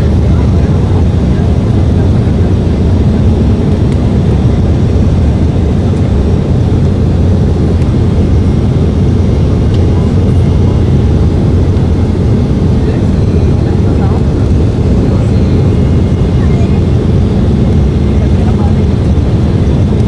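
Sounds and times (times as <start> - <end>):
airliner engine rumble: 0.0 - 20.0.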